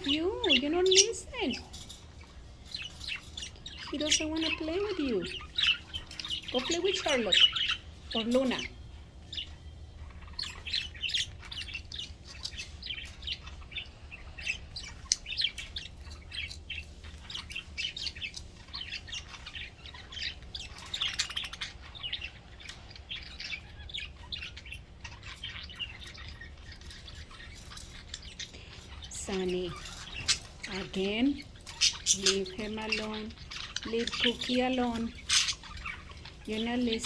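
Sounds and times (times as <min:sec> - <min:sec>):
budgerigars chirping and chattering: 0:00.0 - 0:37.0.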